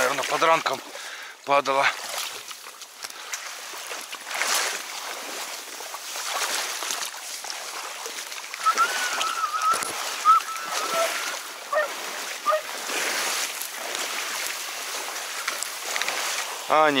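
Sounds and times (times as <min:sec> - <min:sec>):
water sloshing: 0:00.0 - 0:17.0
reeds rustling and swishing: 0:01.9 - 0:17.0.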